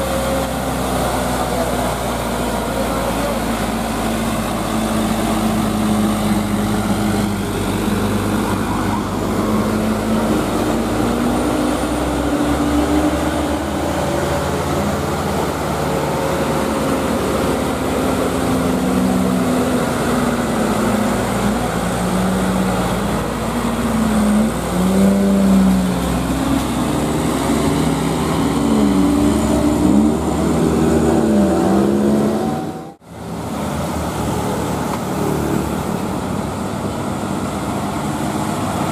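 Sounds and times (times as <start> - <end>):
diesel truck engines straining: 0.0 - 38.9
road traffic noise: 0.0 - 38.9.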